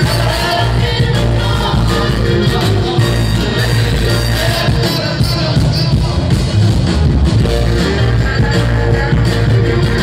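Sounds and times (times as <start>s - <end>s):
soul band playing: 0.0s - 10.0s.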